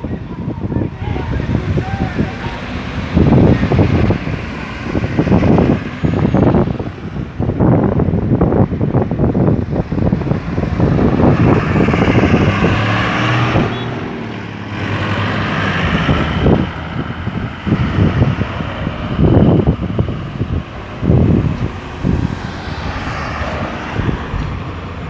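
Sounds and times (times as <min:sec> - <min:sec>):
road traffic passing: 0:00.0 - 0:25.0
wind buffeting microphone: 0:00.0 - 0:25.0.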